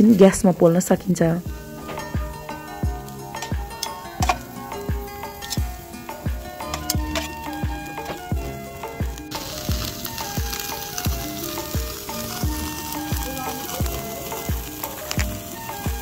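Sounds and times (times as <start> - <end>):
meat sizzling on a grill: 0.0 - 16.0
background music with low thumps: 0.3 - 16.0.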